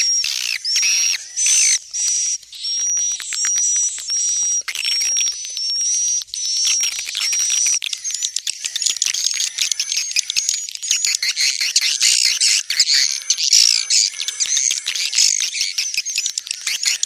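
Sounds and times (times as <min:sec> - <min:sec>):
bird chirps and twittering: 0:00.0 - 0:17.0.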